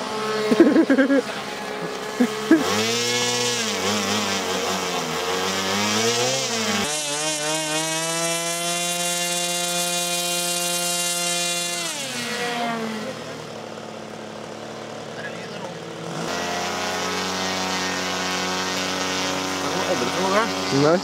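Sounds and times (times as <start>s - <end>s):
model aircraft engine running: 0.0s - 21.0s.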